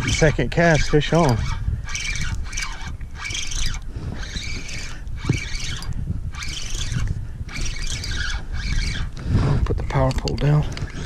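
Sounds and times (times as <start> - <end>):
fishing reel cranking: 0.0 - 11.0
wind rumble on microphone: 0.0 - 11.0.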